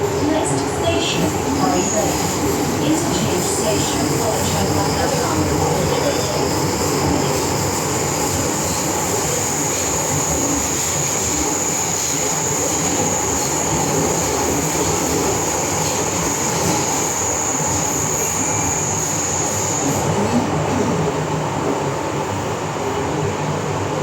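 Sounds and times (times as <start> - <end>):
train running noise: 0.0 - 24.0.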